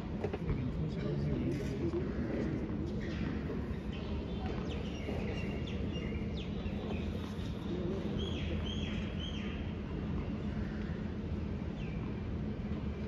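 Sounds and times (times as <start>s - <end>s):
low outdoor background noise: 0.0s - 13.0s
birds chirping: 0.5s - 13.0s.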